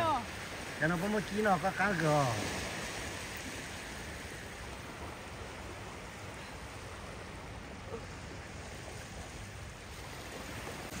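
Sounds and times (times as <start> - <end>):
beach surf washing in: 0.0 - 11.0.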